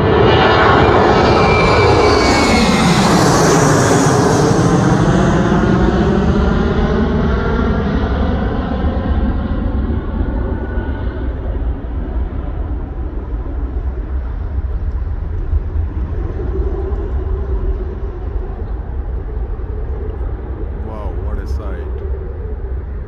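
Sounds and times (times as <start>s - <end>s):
jet engine low roar: 0.0s - 23.0s
jet engine whine: 0.0s - 23.0s.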